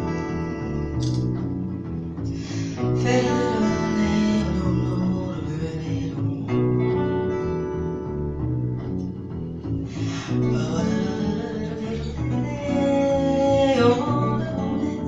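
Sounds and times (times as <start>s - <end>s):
upright bass walking line: 0.0s - 15.0s.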